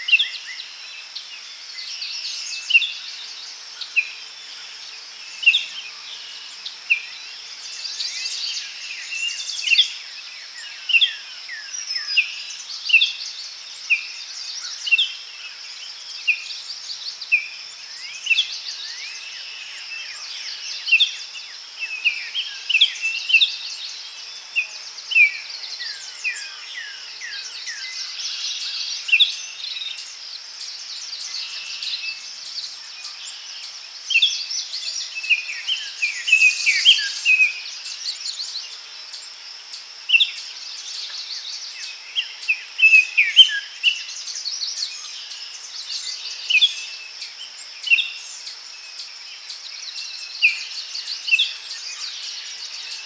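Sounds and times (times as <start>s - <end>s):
birds chirping and singing: 0.0s - 53.0s
insects buzzing: 0.0s - 53.0s.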